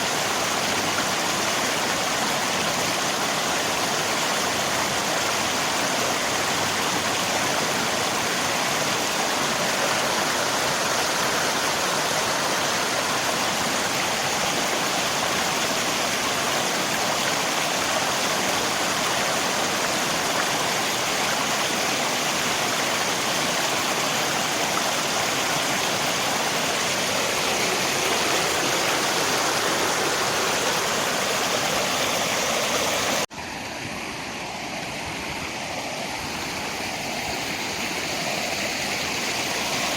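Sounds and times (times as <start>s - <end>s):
rain: 0.0s - 39.9s
river water rushing: 0.0s - 39.9s.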